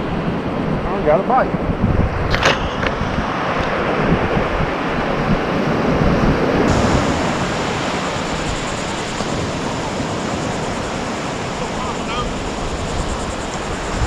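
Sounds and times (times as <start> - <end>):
ocean surf washing on beach: 0.0 - 14.0
wind on the microphone: 0.0 - 14.0.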